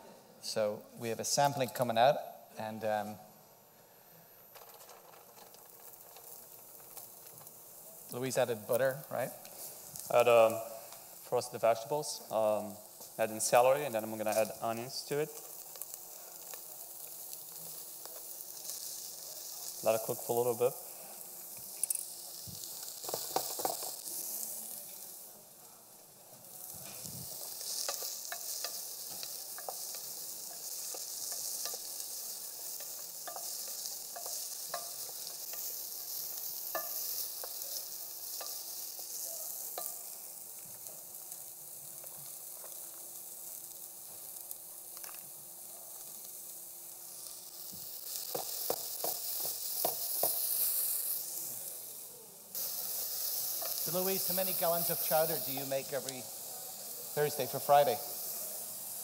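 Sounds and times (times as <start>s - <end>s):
vegetables sizzling in butter: 0.4s - 59.0s.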